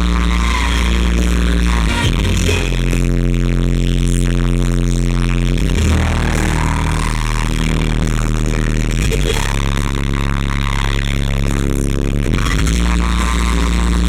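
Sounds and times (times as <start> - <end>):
steady low bass: 0.0 - 14.0.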